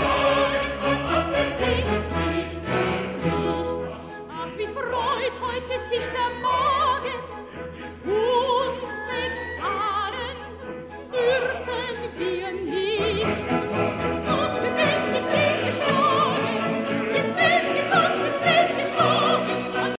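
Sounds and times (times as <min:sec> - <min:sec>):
operatic singing with orchestra: 0:00.0 - 0:20.0.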